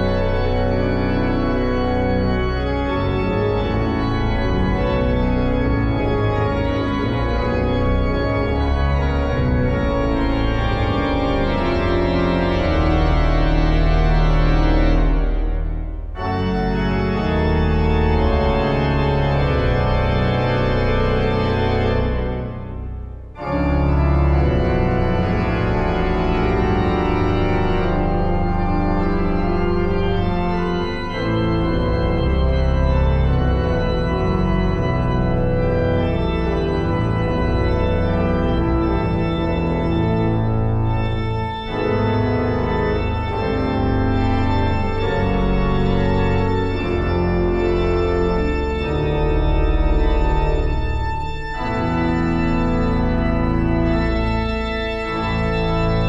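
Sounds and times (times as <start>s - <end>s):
pipe organ chords: 0.0s - 56.0s.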